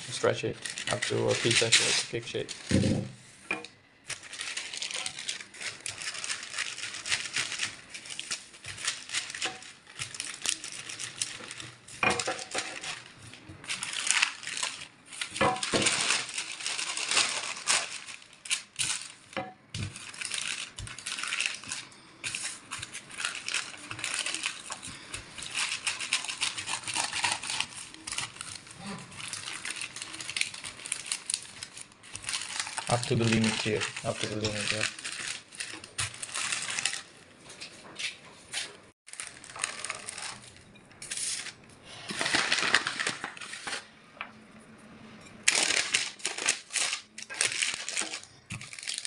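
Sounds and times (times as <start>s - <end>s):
parchment paper crinkling: 0.0s - 2.9s, 4.0s - 43.9s, 45.4s - 49.0s.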